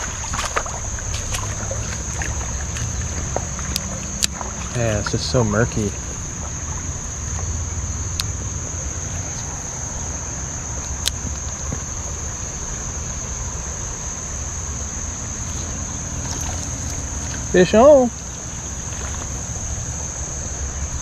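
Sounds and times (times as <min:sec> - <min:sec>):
creek water rushing: 0:00.0 - 0:21.0
insects chirring: 0:00.0 - 0:21.0.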